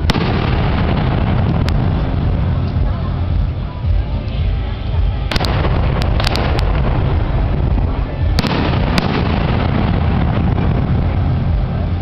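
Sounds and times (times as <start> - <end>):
fireworks bangs: 0.0 - 4.6, 5.2 - 12.0
low rumble: 0.0 - 12.0.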